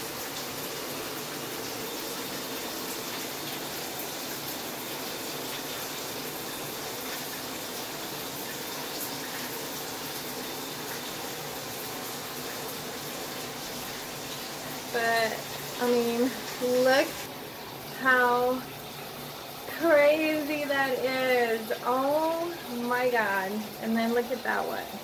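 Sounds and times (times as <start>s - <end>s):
shower spraying on glass and tile: 0.0s - 25.0s.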